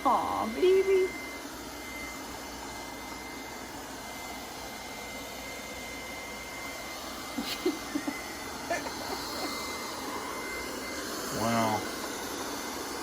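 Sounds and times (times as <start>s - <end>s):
robot vacuum cleaner whirring: 0.0s - 13.0s.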